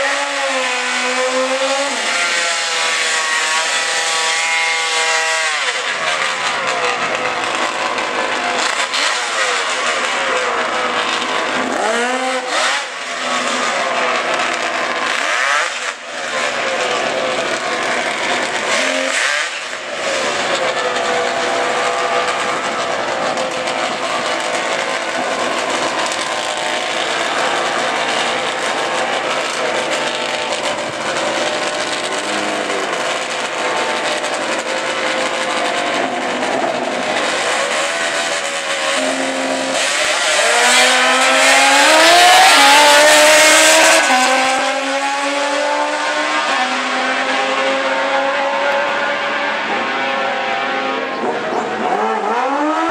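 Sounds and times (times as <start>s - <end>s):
motorcycle engines revving: 0.0s - 52.9s.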